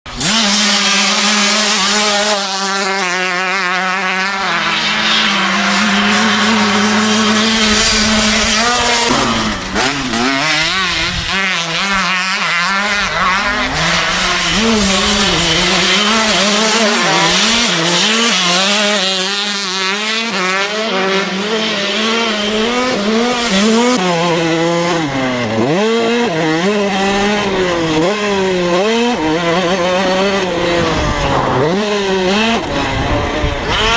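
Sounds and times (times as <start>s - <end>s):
dirt bike engine revving: 0.1s - 33.9s.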